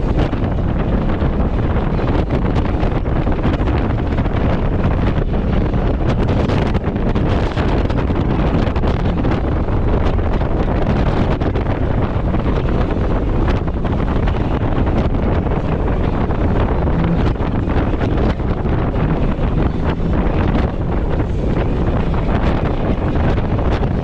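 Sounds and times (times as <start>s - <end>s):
outboard motor running: 0.0s - 24.0s
wind buffeting microphone: 0.0s - 24.0s.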